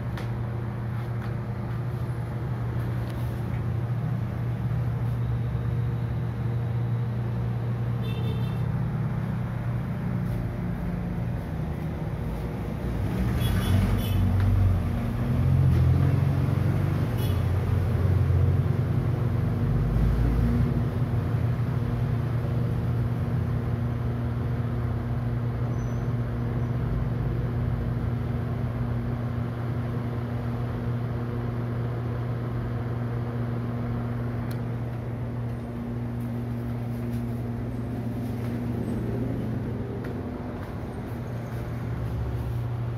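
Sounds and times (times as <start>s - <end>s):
air rushing through fan blades: 0.0s - 42.9s
exhaust fan motor hum: 0.0s - 42.9s.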